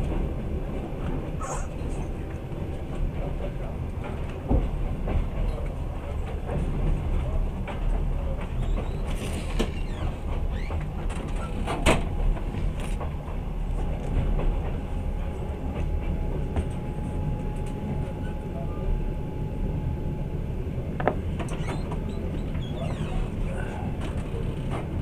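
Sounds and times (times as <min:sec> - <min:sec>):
train rumbling inside carriage: 0:00.0 - 0:25.0.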